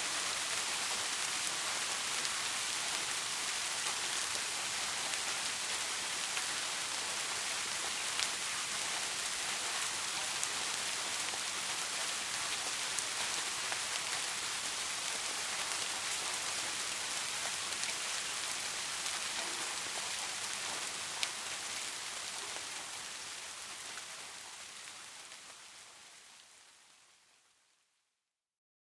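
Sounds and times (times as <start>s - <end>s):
steady rain falling: 0.0s - 27.8s.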